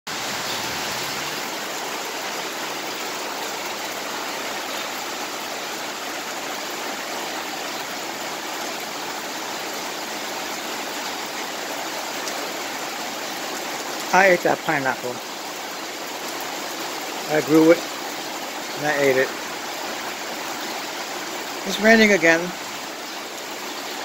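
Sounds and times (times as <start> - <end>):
heavy rain on pavement: 0.1 - 24.0.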